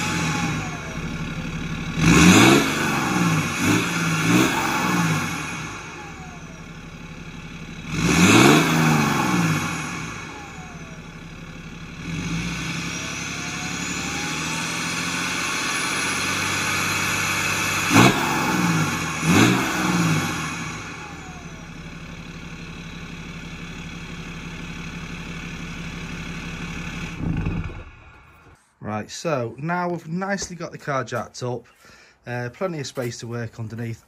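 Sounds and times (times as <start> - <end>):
diesel engine idling and revving: 0.0 - 28.8.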